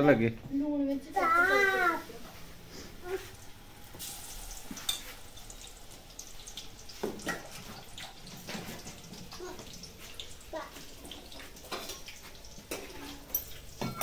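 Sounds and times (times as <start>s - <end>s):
food sizzling in hot oil: 1.0s - 14.0s.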